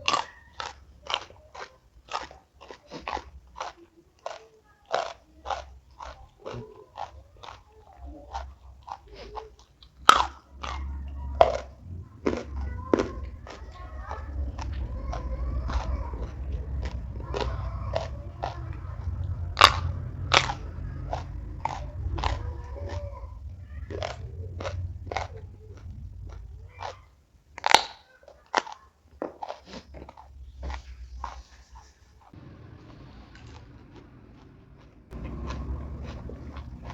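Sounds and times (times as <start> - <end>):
chewing crunchy food: 0.0 - 36.9.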